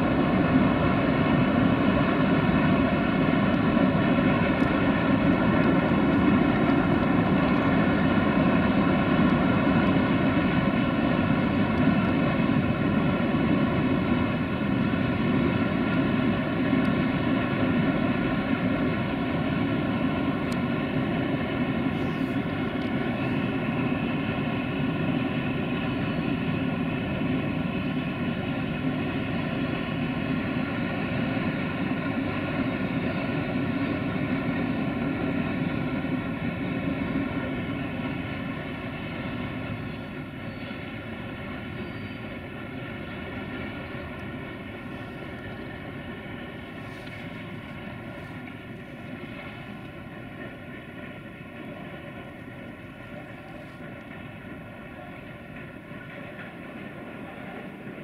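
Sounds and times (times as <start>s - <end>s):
distant freight train passing: 0.0s - 58.0s.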